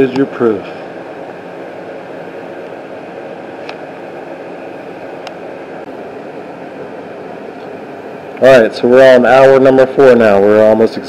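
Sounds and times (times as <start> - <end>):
machine-like hum and hiss: 0.0 - 11.0.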